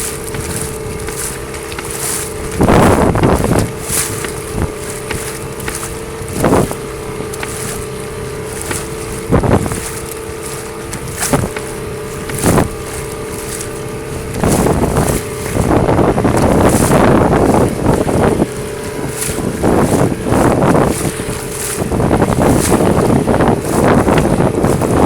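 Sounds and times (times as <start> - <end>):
boat engine humming: 0.0 - 25.0
wind rushing on microphone: 0.0 - 25.0.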